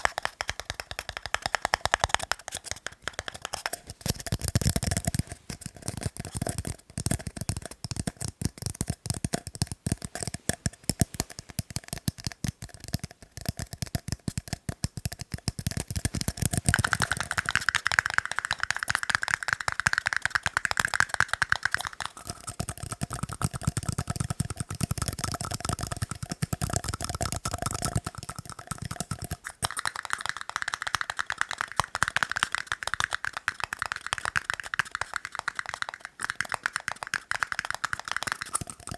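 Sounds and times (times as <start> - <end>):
rapid tapping on tiny cups: 0.0 - 38.9.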